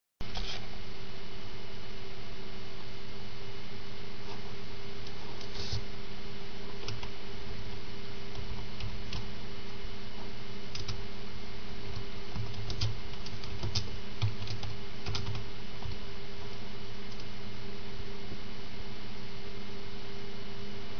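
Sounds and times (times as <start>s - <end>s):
electrical hum: 0.2s - 20.9s
steady hiss: 3.4s - 20.9s.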